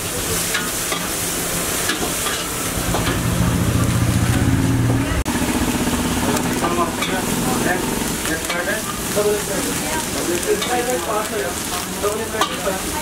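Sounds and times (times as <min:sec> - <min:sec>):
food sizzling while frying: 0:00.0 - 0:13.0.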